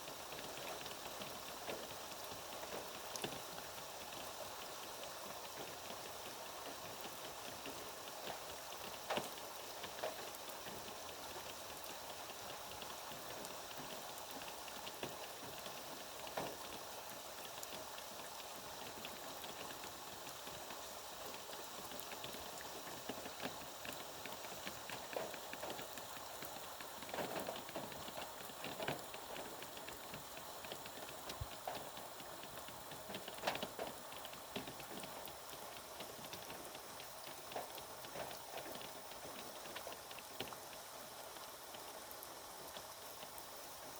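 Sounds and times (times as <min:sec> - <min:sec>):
rain hiss: 0:00.0 - 0:43.9
raindrops pattering: 0:00.0 - 0:43.9.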